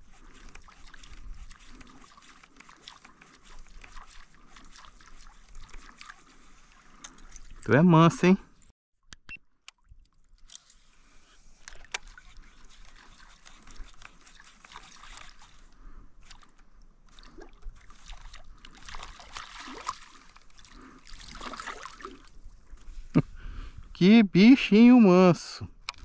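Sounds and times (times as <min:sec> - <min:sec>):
small clicks and splashes: 0:00.0 - 0:07.8, 0:08.5 - 0:22.9, 0:25.8 - 0:26.0.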